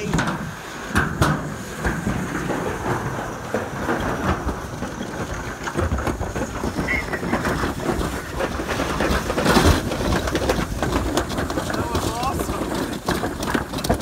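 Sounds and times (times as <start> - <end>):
sled jolt: 0.0 - 14.0
toboggans rattling down a run: 0.0 - 14.0.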